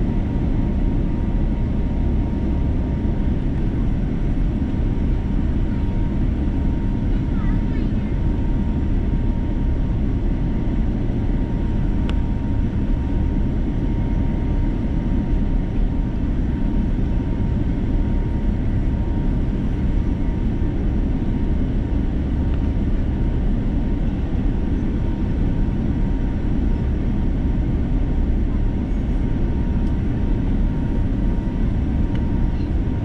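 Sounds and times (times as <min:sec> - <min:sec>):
airliner cabin engine rush: 0:00.0 - 0:33.0
faint constant whine: 0:00.0 - 0:33.0.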